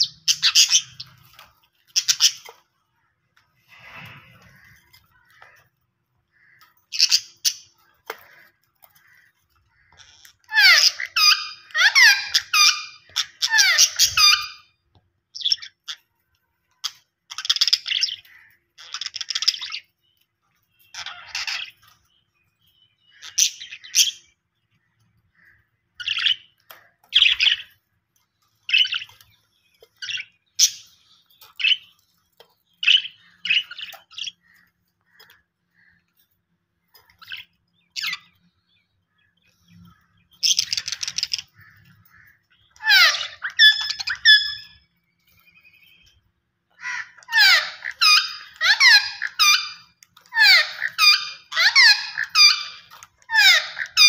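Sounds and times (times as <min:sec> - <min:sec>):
budgerigars chirping and warbling: 0:00.0 - 0:03.1, 0:03.7 - 0:14.7, 0:15.3 - 0:16.1, 0:16.8 - 0:54.0.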